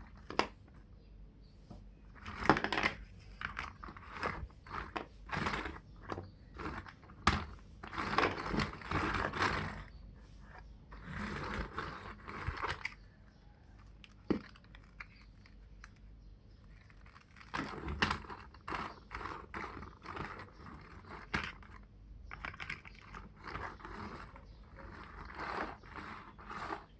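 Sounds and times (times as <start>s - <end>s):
plastic building bricks clicking: 0.0s - 0.6s, 2.2s - 9.9s, 10.9s - 26.9s.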